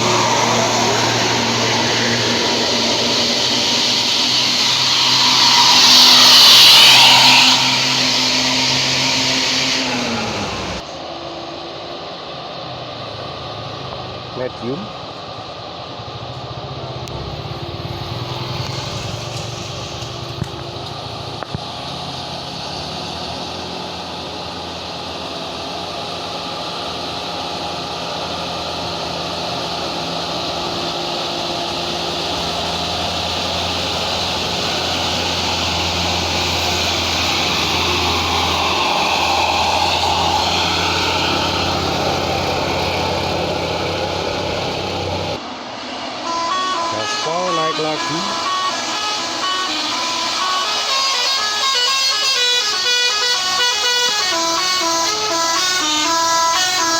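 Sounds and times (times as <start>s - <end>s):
bus diesel engine labouring: 0.0s - 56.9s.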